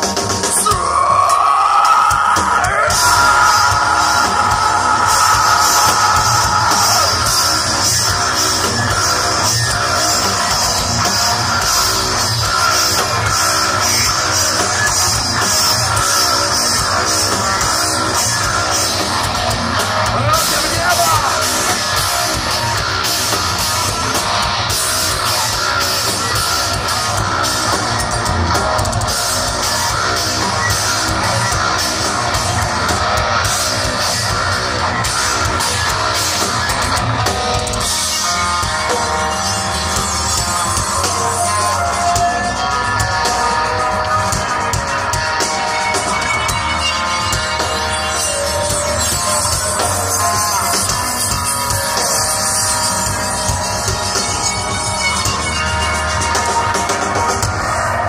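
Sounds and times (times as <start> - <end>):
heavy rock band playing live: 0.0 - 58.0.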